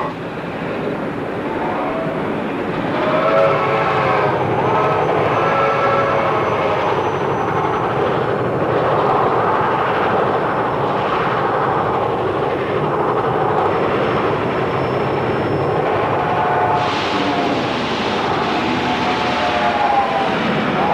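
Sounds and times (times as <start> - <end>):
cartoon train rumble: 0.0 - 20.9.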